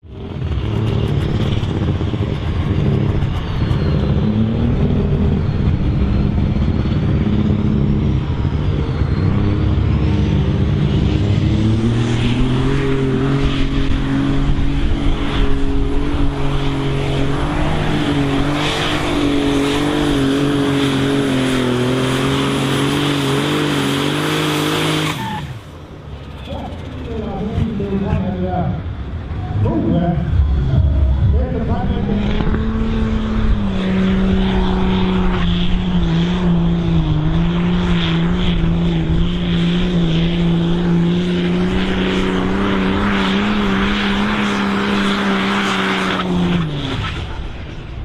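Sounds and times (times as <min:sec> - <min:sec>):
diesel tractor engine at full throttle: 0:00.0 - 0:48.0.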